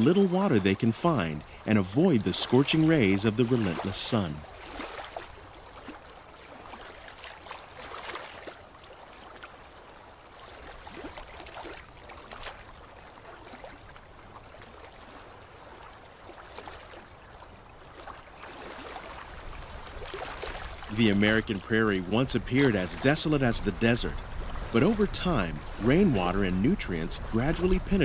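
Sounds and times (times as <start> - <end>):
lapping water: 0.0 - 28.0
small splashes: 0.0 - 28.0.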